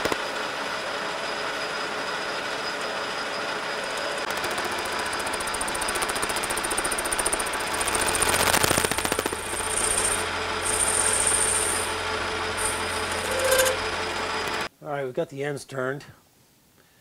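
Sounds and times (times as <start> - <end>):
high whine: 0.0 - 14.7
metal lathe rattling: 0.8 - 14.7.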